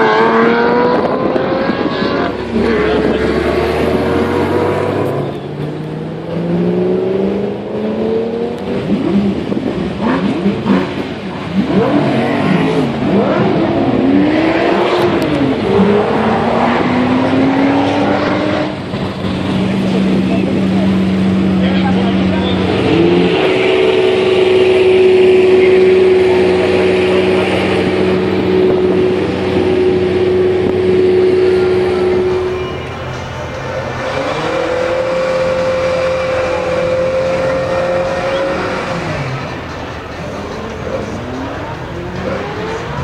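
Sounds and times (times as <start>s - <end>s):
high-revving sports car engines: 0.0s - 43.0s.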